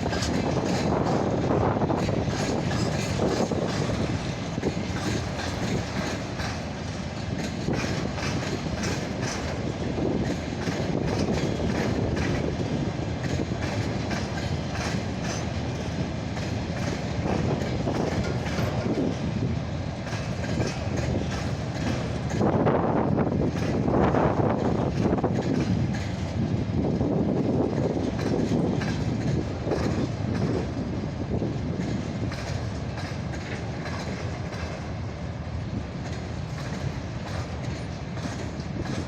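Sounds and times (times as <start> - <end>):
freight train wagons rumbling: 0.0 - 39.0
wheels clacking over rail joints: 0.0 - 39.0.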